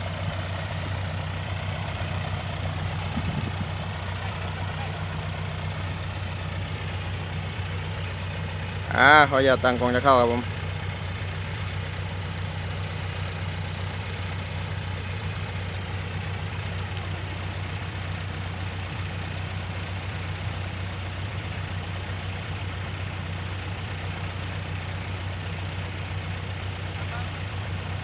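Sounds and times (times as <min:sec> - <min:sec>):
tractor diesel engine droning: 0:00.0 - 0:28.0.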